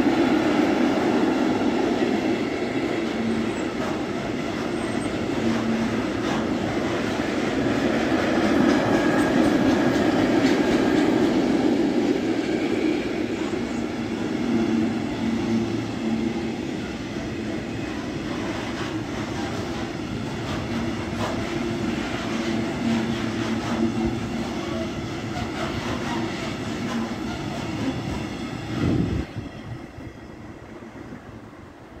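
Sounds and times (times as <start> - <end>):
freight train wheels clattering on rails: 0.0 - 30.1.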